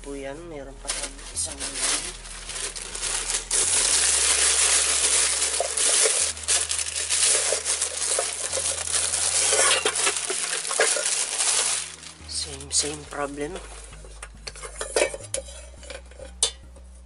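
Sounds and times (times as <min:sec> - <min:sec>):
rustling and crinkling: 0:00.7 - 0:16.3.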